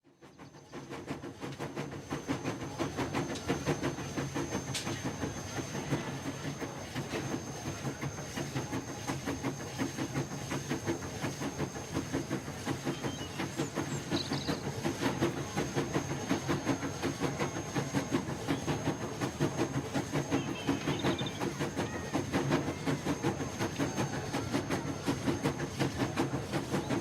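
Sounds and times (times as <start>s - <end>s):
train wheels clattering on rails: 0.1s - 27.0s.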